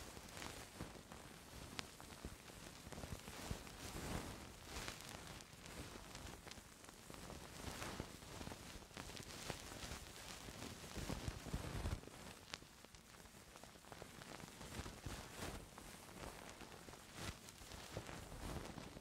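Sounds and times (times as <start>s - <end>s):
soft scratching and rustling on microphone: 0.0s - 19.0s.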